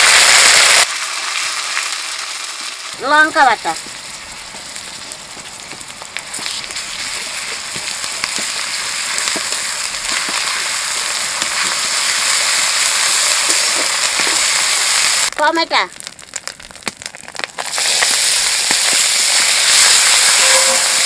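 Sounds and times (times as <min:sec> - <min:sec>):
paste sizzling in hot oil: 0:00.0 - 0:21.0
light crackles: 0:00.6 - 0:21.0.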